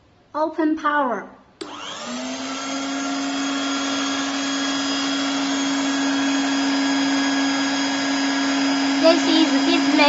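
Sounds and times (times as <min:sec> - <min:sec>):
blower motor humming and whining: 0:01.6 - 0:10.0.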